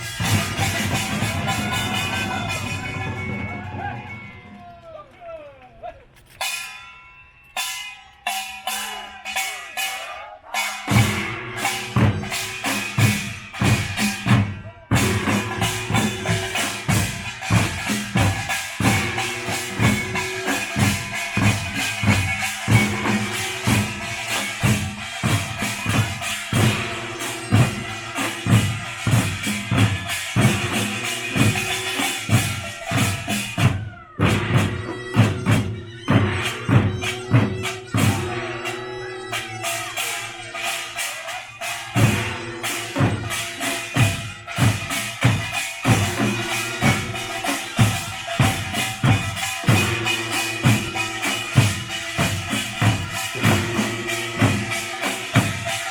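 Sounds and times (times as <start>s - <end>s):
clanging gongs: 0.0s - 5.1s, 6.2s - 55.9s
percussion band drums: 0.0s - 55.9s.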